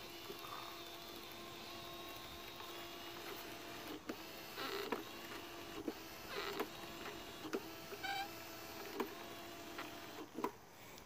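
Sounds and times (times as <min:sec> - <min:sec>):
motor whine: 0:00.0 - 0:10.5.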